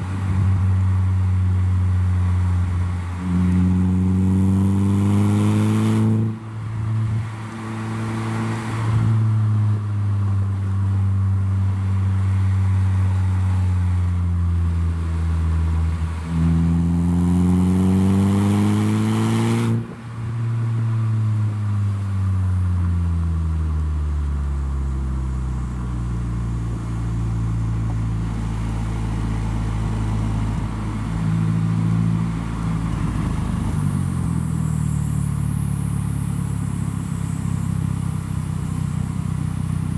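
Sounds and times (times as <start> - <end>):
car engine with exhaust driving: 0.0 - 39.9.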